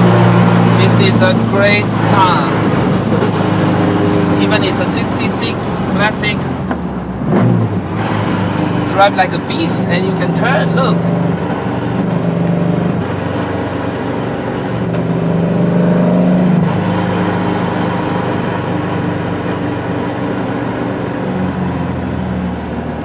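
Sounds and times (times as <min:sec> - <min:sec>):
car engine from inside cabin: 0:00.0 - 0:23.0.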